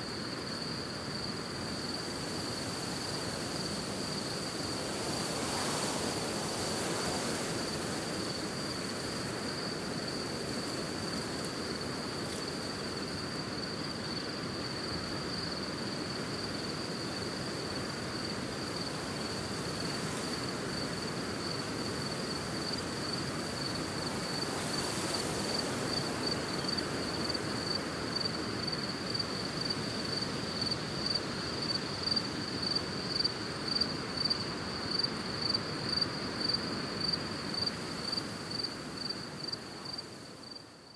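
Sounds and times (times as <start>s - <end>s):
soft wind: 0.0s - 40.9s
insects trilling: 0.2s - 40.9s.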